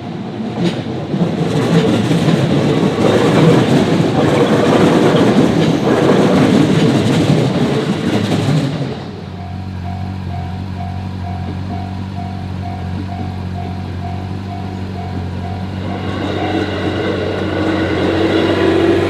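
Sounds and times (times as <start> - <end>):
electric train passing: 0.0 - 19.0
wheel-on-rail noise: 0.0 - 19.0.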